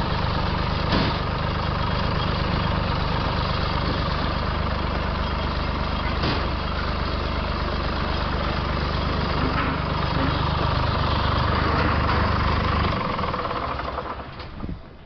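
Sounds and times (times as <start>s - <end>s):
stump grinder engine running: 0.0s - 14.6s.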